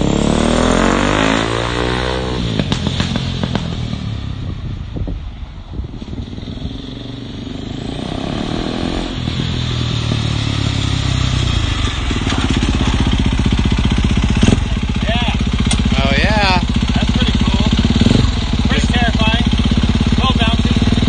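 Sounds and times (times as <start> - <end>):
go-kart engine revving: 0.0 - 4.4, 6.0 - 21.0.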